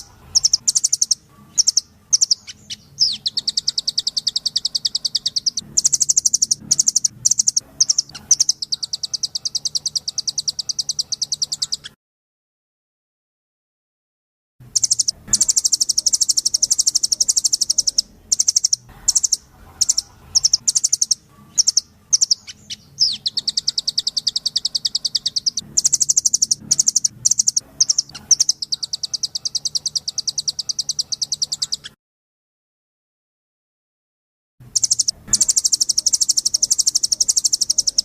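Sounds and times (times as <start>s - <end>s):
songbird trills: 0.0s - 12.0s, 14.7s - 32.0s, 34.7s - 38.0s.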